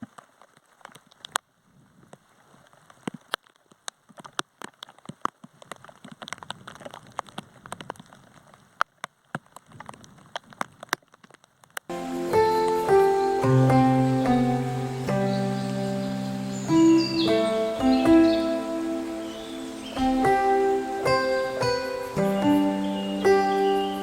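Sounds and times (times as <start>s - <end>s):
rain pattering: 0.0s - 24.0s
sharp raindrops landing close: 0.0s - 24.0s.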